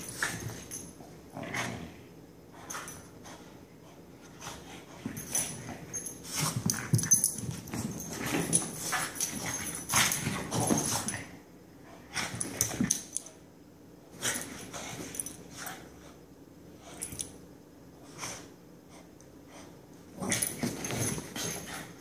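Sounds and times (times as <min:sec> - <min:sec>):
dogs play-fighting growls and breathing: 0:00.0 - 0:22.0.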